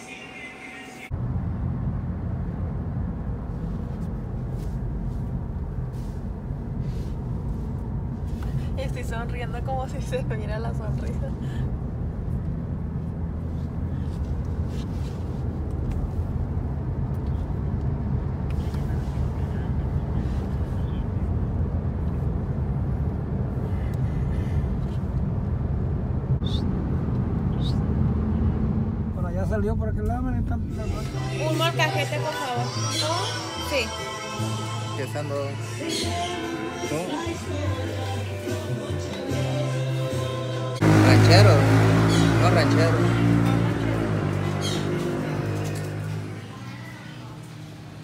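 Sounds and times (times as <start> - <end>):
car cabin road and engine rumble: 1.0 - 48.0.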